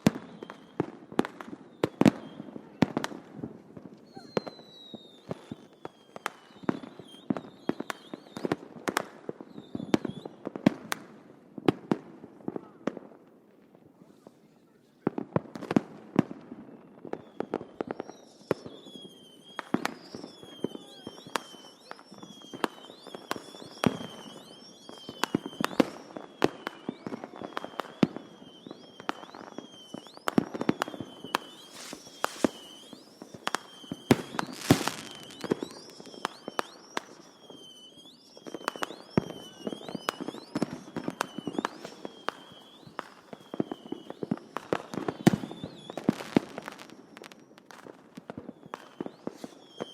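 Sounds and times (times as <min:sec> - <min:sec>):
distant fireworks bangs and crackles: 0:00.0 - 0:49.9.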